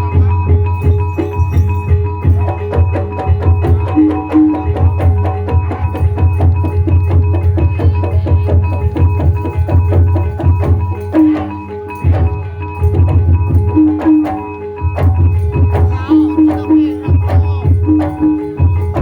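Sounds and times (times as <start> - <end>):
ringing metallic tones: 0.0 - 19.0.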